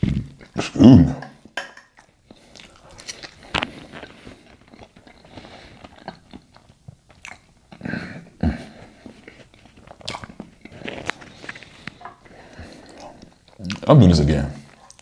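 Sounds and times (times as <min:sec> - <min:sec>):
person chewing: 0:00.0 - 0:14.0, 0:14.7 - 0:15.0.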